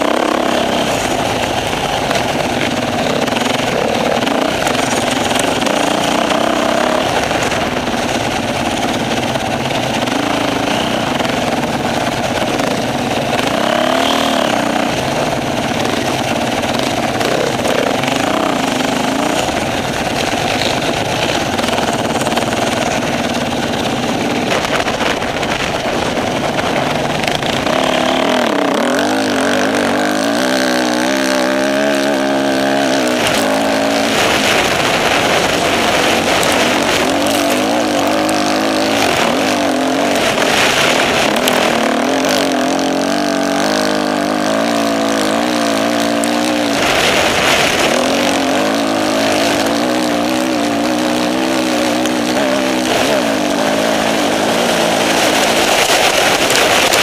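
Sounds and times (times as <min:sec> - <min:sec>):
constant rush of noise: 0:00.0 - 0:57.0
motorcycle engine revving: 0:00.0 - 0:57.0.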